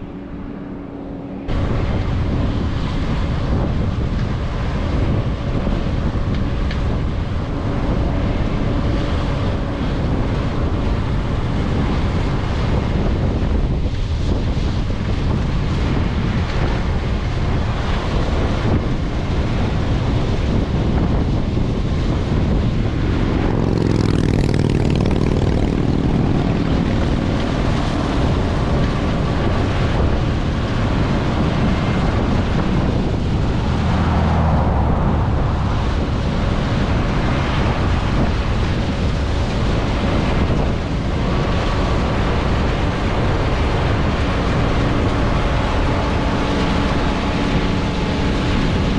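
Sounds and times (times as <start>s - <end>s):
combine harvester running: 0.0s - 48.9s
wind buffeting microphone: 0.0s - 48.9s.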